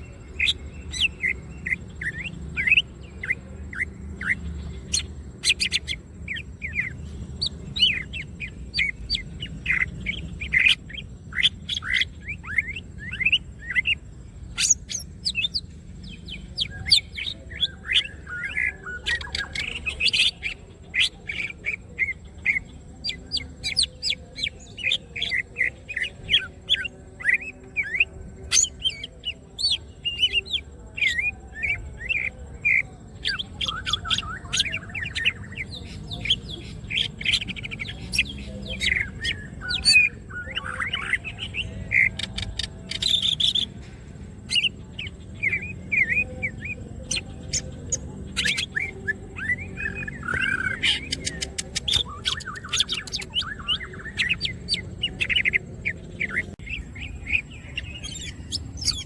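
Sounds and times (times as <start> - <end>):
bird singing whistled chirps: 0.0 - 59.0.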